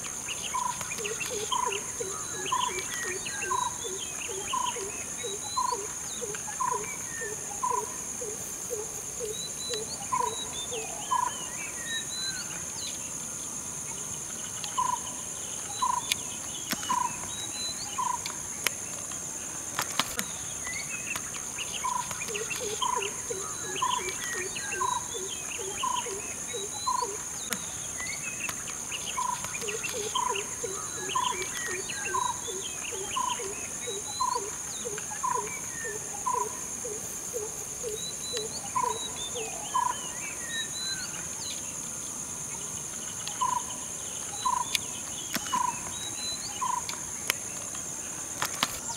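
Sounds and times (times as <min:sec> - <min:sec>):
wild birds calling: 0:00.0 - 0:12.6, 0:14.4 - 0:19.1, 0:19.8 - 0:41.6, 0:43.1 - 0:48.9
high-pitched insect drone: 0:00.0 - 0:12.9, 0:20.1 - 0:48.0.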